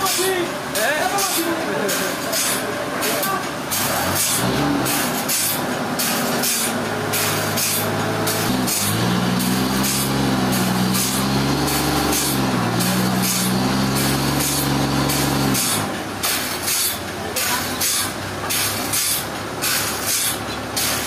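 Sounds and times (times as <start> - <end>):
heavy machinery engine: 0.0 - 21.0.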